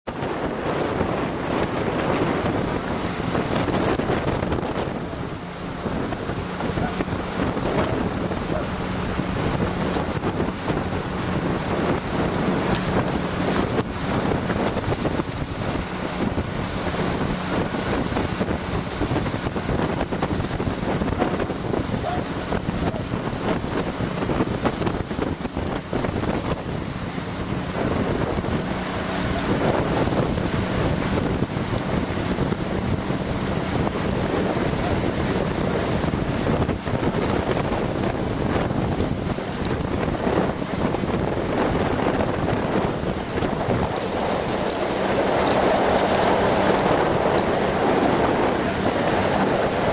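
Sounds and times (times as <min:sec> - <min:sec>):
motorboat engine hum: 0:00.0 - 0:49.9
water rushing: 0:00.0 - 0:49.9
wind buffeting microphone: 0:00.1 - 0:49.9.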